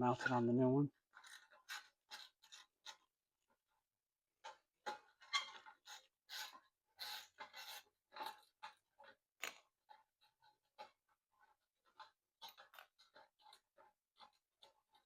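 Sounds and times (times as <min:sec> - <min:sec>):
small parts clicking and scraping: 0:01.1 - 0:03.1, 0:04.4 - 0:15.0.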